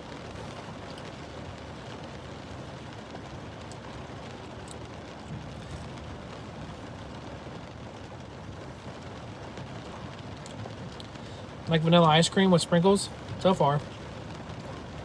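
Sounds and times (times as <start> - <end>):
rain on car roof: 0.0 - 15.0.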